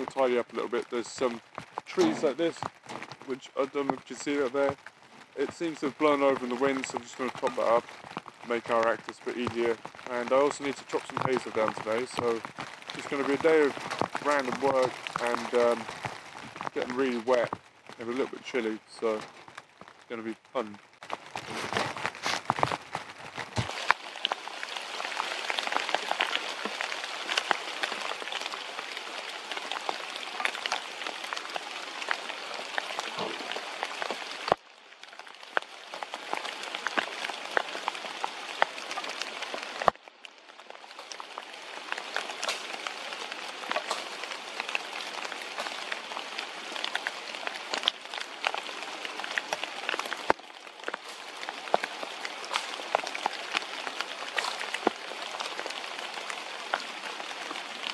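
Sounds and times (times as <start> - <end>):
rain drops pattering: 0.0 - 57.9.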